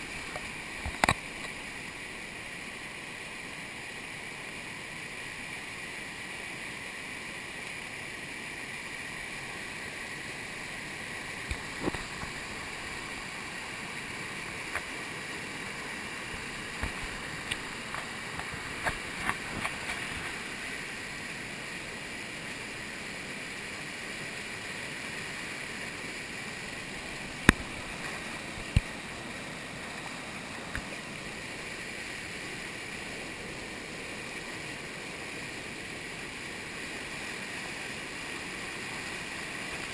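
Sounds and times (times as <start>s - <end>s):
whitewater pouring over a dam: 0.0s - 39.9s.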